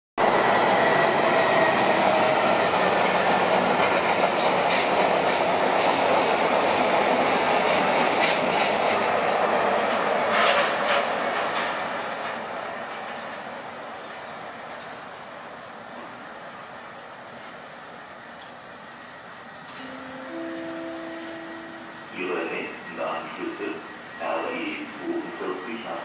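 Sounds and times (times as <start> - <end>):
freight train wheels rumbling: 0.2 - 26.0.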